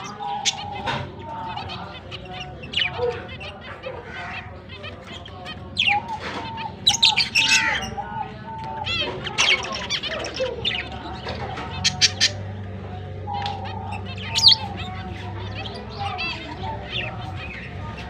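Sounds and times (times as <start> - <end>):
lovebirds squawking and chirping: 0.0 - 18.0.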